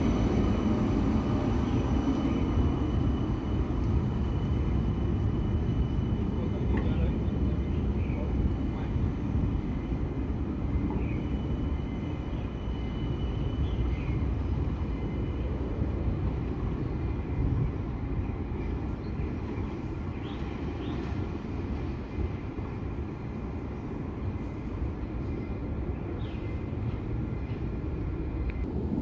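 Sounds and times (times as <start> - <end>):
faint high whine: 0.0 - 29.0
light rail rumble: 0.0 - 29.0.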